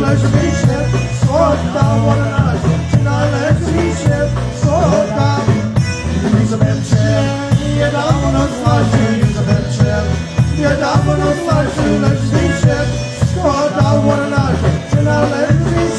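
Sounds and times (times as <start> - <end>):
bass line: 0.0 - 15.9
drum kit beat: 0.0 - 15.9
polka band playing: 0.0 - 15.9.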